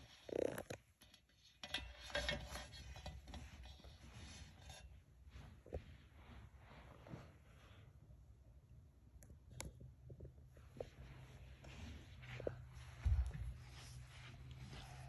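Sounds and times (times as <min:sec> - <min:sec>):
rubbing and scraping handling noise: 0:00.0 - 0:08.2, 0:10.2 - 0:15.0.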